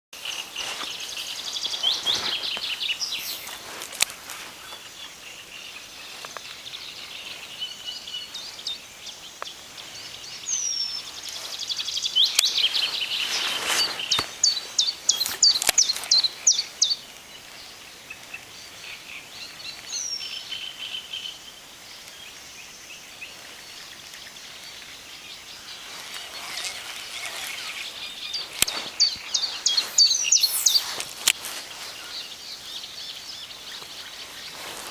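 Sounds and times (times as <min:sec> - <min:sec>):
songbirds chirping and trilling: 0:00.2 - 0:34.9.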